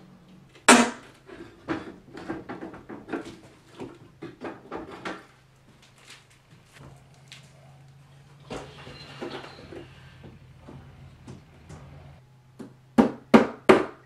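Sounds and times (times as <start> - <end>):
wooden knocks and clatter: 0.6 - 14.0.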